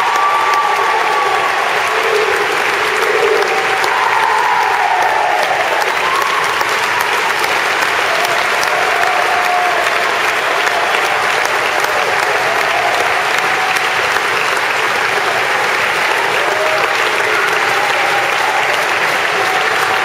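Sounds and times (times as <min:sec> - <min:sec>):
crowd clapping: 0:00.0 - 0:20.0.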